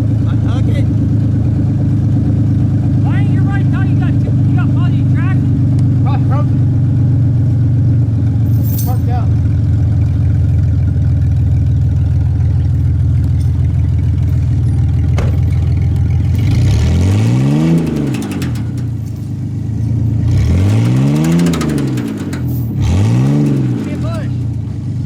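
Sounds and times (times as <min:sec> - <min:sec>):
pickup truck engine revving: 0:00.0 - 0:25.0.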